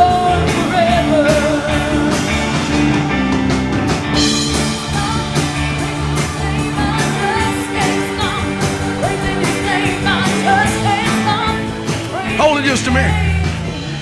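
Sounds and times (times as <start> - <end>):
person singing: 0.0 - 13.5
gospel band music: 0.0 - 14.0
steady drumbeat: 0.0 - 14.0.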